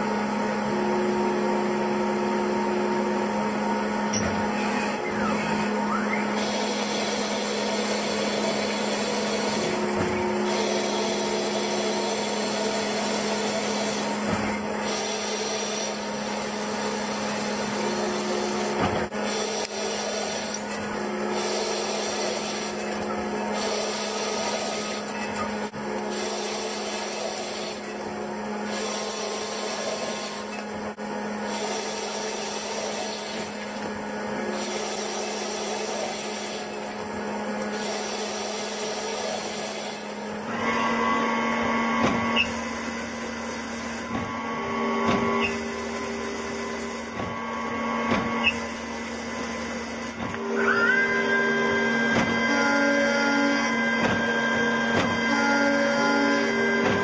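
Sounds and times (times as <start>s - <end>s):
lathe machine hum: 0.0s - 57.0s
metal cutting noise: 2.6s - 57.0s.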